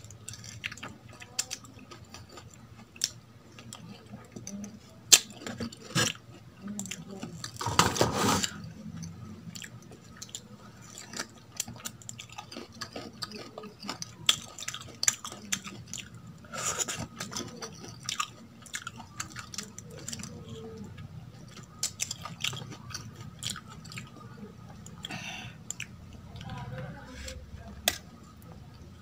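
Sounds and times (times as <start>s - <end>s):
wet chewing and mouth sounds: 0.0s - 26.6s.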